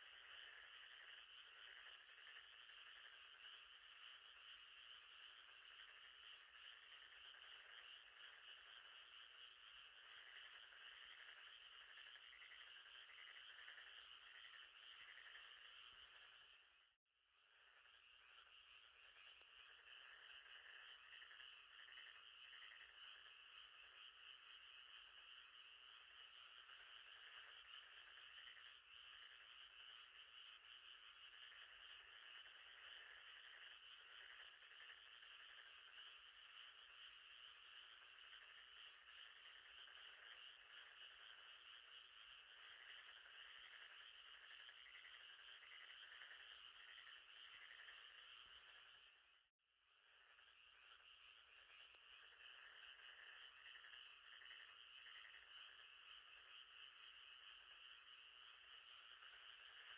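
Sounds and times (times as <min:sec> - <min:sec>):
frogs trilling: 0:00.0 - 0:59.9.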